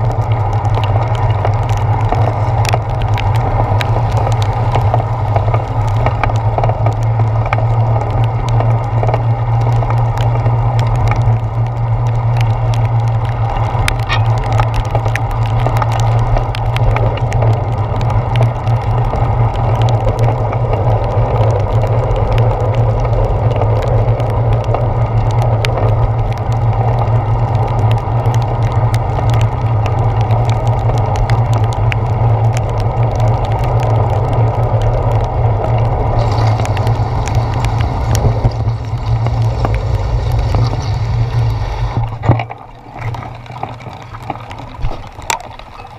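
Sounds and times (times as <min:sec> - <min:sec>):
bicycle rumbling on wet pavement: 0:00.0 - 0:45.9
raindrops tapping on housing: 0:00.0 - 0:45.9.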